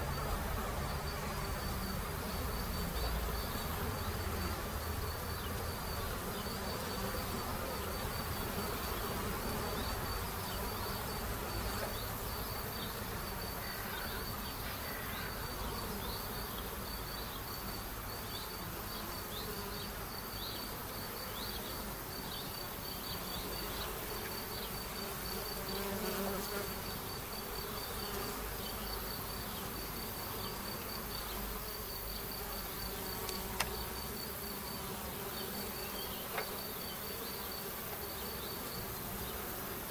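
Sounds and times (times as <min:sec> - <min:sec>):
bee flying close by: 0:00.0 - 0:39.9
honeybees buzzing: 0:00.0 - 0:39.9.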